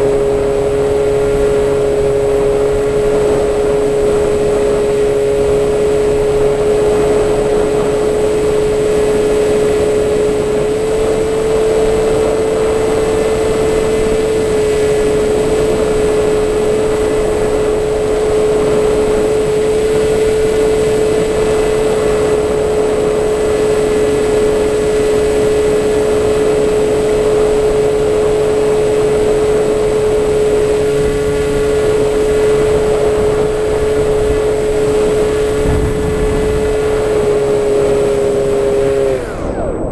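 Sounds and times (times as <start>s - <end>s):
model aircraft motor whine: 0.0s - 39.9s
wind rush: 0.0s - 39.9s.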